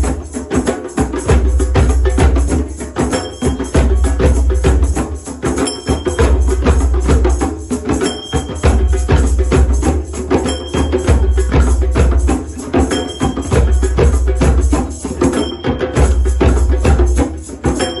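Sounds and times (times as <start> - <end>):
hand drums beating: 0.0 - 18.0
jingling hand percussion: 0.0 - 18.0.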